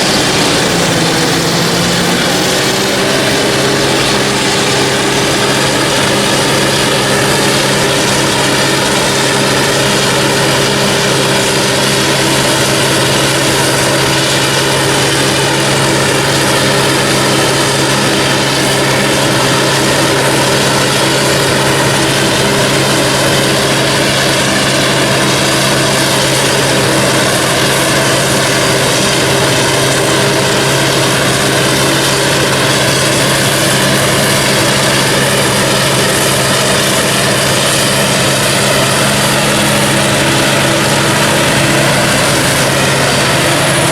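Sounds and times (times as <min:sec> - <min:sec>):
continuous rushing noise: 0:00.0 - 0:43.9
diesel farm machinery engine hum: 0:00.0 - 0:43.9.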